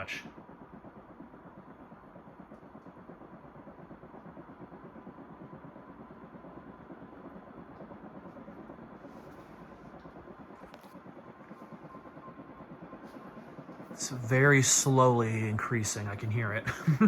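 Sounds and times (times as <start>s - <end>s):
ceiling fan whirring: 0.0s - 17.0s
faint steady hum: 0.0s - 17.0s.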